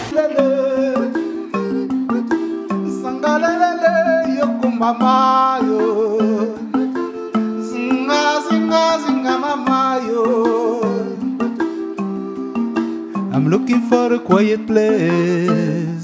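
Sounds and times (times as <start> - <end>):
song with plucked strings and beat: 0.0 - 16.0.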